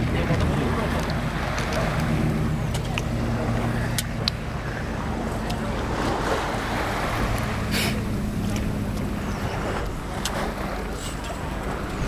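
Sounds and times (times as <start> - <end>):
sea water lapping and sloshing: 0.0 - 12.0
steady low hum: 0.0 - 12.0.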